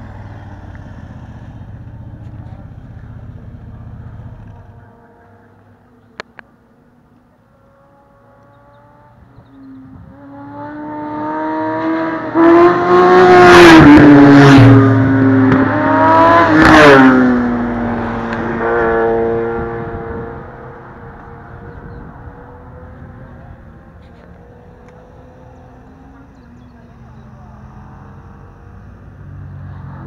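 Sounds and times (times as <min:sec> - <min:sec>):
motorcycle engine accelerating: 0:00.0 - 0:06.4, 0:07.5 - 0:30.0.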